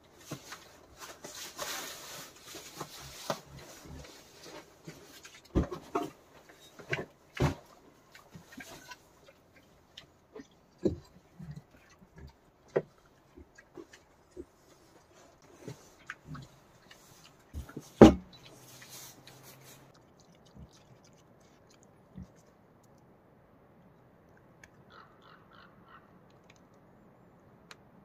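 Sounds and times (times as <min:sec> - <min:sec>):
rustling: 0:00.1 - 0:23.0
wild boar snuffling: 0:00.1 - 0:23.0.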